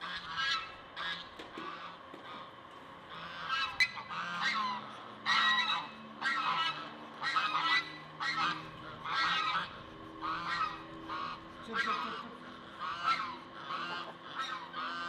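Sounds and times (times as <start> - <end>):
geese honking: 0.0 - 2.5, 3.1 - 15.0.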